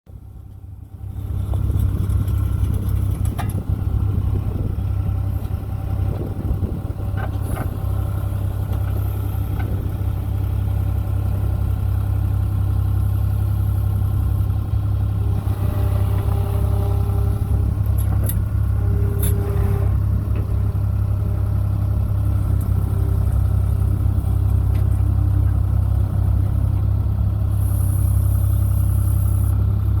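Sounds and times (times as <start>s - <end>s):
engine running steadily: 0.1s - 30.0s.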